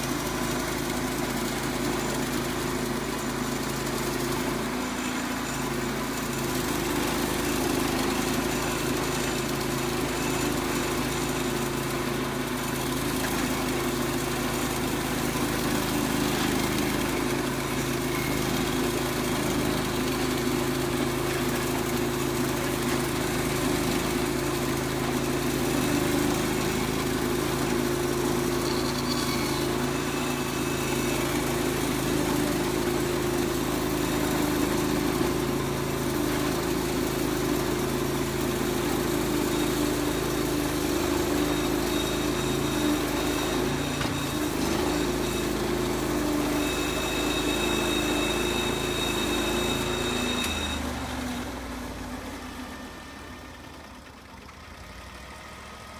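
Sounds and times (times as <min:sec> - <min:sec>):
saw cutting log: 0:00.0 - 0:51.6
sawmill engine running: 0:00.0 - 0:55.9.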